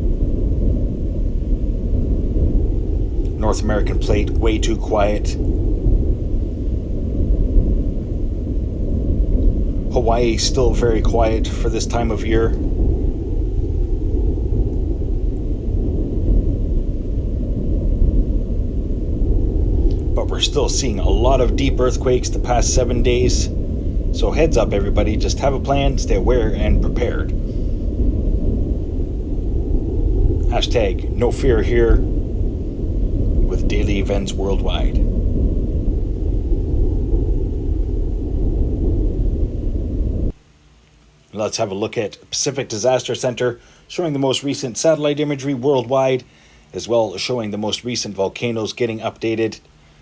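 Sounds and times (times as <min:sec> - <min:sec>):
steady low rumble: 0:00.0 - 0:50.0.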